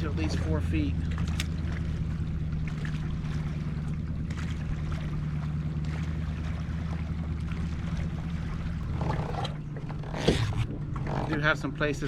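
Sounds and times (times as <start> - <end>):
faint water noise: 0.0 - 12.0
low hum of kayak drive: 0.0 - 12.0.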